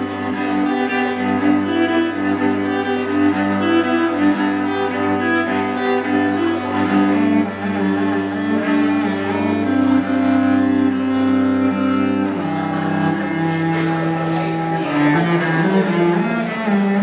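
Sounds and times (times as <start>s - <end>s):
bowed cello: 0.0s - 17.0s.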